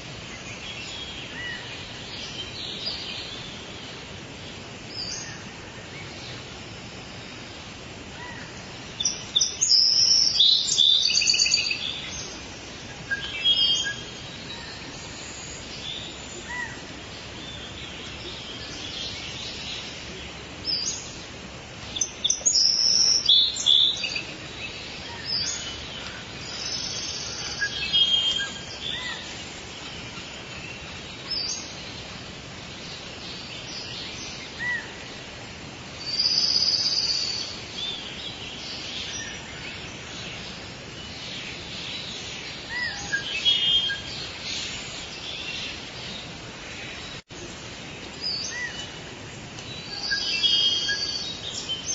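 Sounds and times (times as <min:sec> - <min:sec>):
birds calling and singing: 0:00.0 - 0:51.9
forest ambience hiss: 0:00.0 - 0:51.9.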